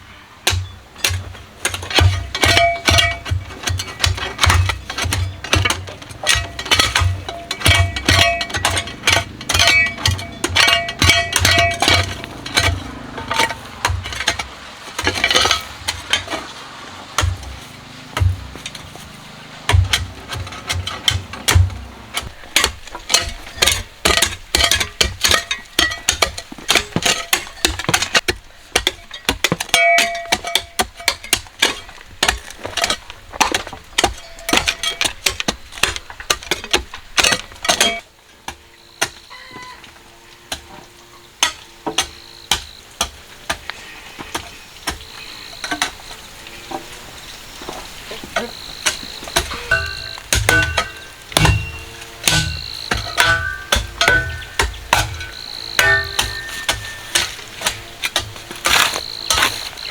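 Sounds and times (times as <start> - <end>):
metallic knocks and scrapes: 0.4 - 59.9.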